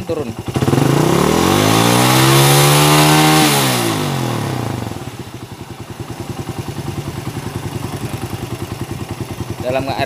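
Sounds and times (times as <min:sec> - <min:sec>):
motorcycle engine revving and idling: 0:00.0 - 0:10.0.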